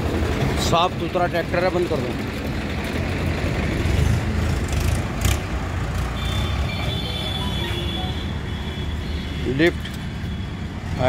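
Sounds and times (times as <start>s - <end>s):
tractor diesel engine idling: 0.0s - 10.7s.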